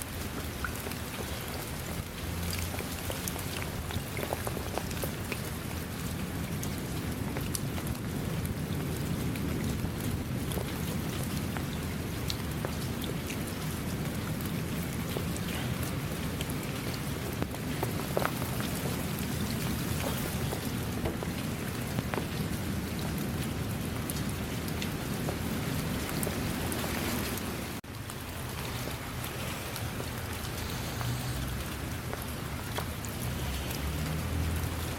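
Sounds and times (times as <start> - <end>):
heavy rain hissing: 0.0 - 34.9
raindrops ticking: 0.0 - 34.9.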